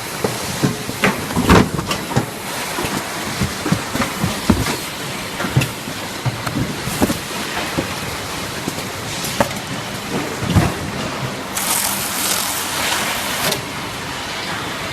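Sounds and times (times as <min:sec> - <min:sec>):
loud hiss: 0:00.0 - 0:14.9
machinery running: 0:00.0 - 0:14.9.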